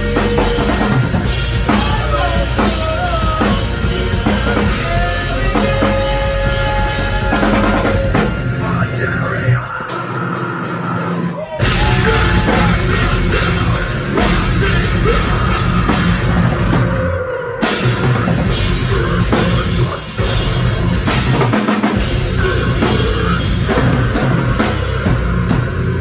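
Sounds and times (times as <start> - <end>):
pounding drums and crashing cymbals: 0.0 - 8.8, 9.6 - 26.0
distorted guitars: 0.0 - 26.0
heavy metal band playing live: 0.0 - 26.0.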